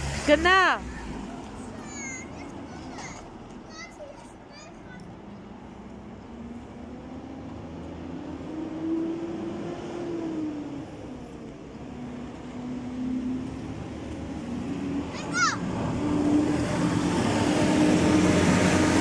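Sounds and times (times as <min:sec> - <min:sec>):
scooter wheels rolling on concrete: 0:00.0 - 0:09.6, 0:10.4 - 0:19.0.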